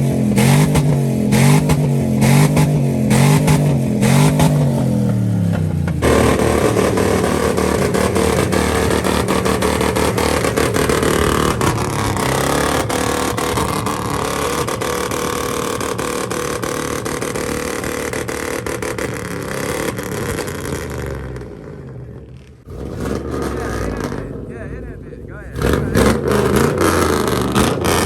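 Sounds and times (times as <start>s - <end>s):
loud vehicle engine revving: 0.0s - 28.0s.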